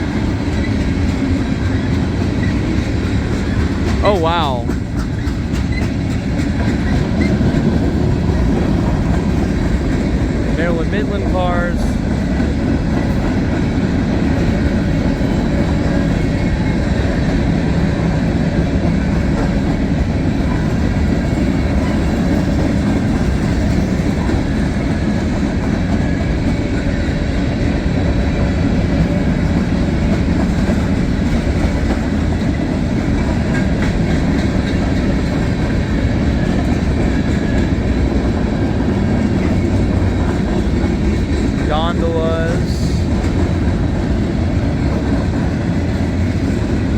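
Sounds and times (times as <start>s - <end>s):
freight train rolling past: 0.0s - 46.9s
wheels clickety-clack on rails: 0.0s - 46.9s.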